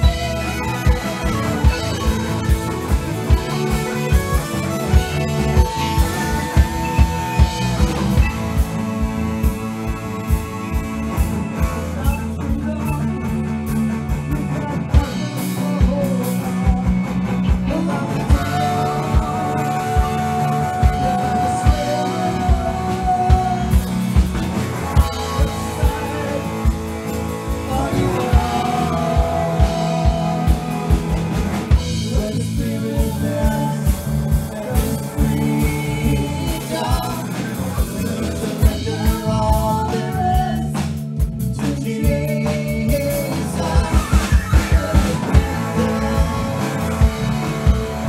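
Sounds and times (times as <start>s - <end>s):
drum-kit beat: 0.0s - 48.0s
rock band playing: 0.0s - 48.0s.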